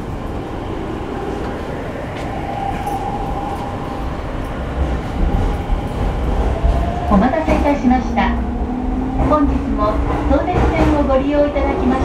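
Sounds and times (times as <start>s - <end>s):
electric train inverter whine: 0.0s - 10.4s
wheels rumbling on rail: 0.0s - 12.0s.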